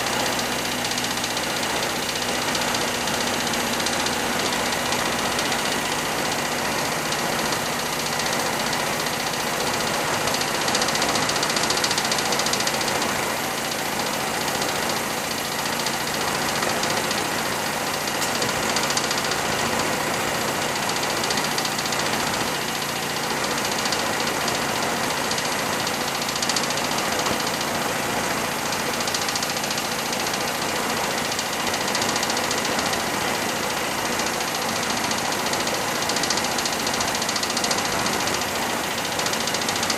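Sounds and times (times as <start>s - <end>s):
stirling engine running: 0.0s - 39.9s.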